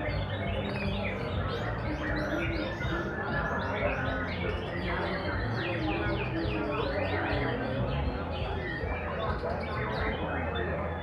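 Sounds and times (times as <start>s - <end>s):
murmur of voices: 0.0s - 11.0s
songbirds singing: 0.0s - 11.0s.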